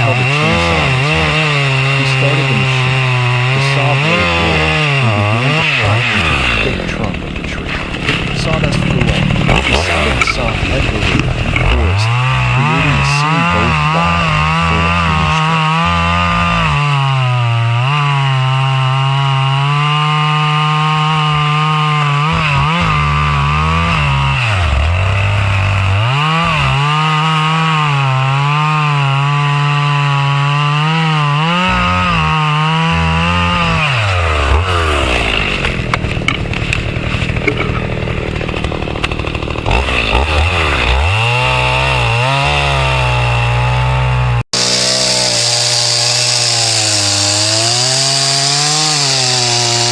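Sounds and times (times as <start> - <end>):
chainsaw cutting tree trunk: 0.0 - 49.9.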